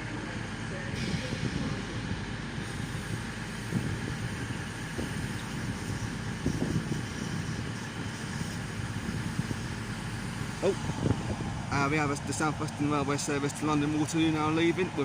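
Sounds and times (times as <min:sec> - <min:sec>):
train engines rumbling and humming: 0:00.0 - 0:15.0.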